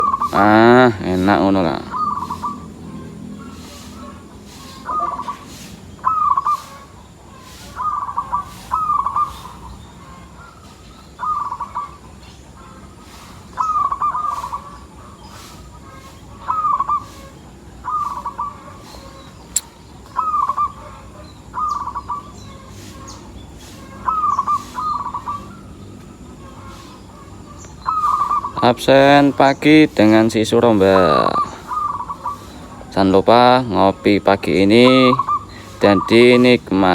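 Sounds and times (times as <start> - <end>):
dove cooing: 0.0 - 19.4, 20.0 - 36.9.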